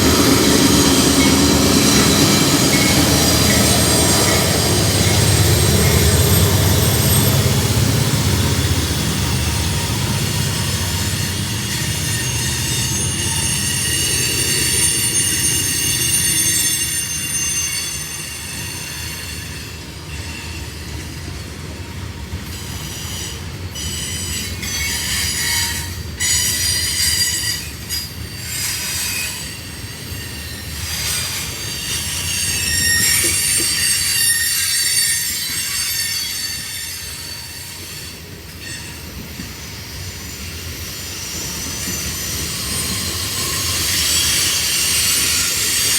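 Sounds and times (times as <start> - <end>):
low train rumble: 0.0 - 45.9
train wheels squealing: 0.0 - 45.9.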